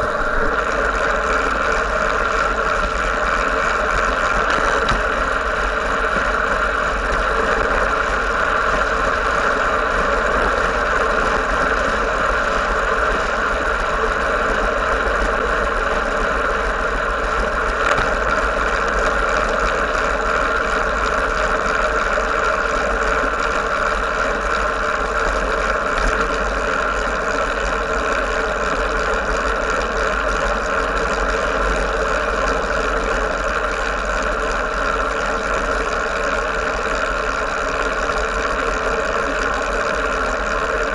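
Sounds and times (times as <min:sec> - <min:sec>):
deep rumble: 0:00.0 - 0:40.9
tyre road noise: 0:00.0 - 0:40.9.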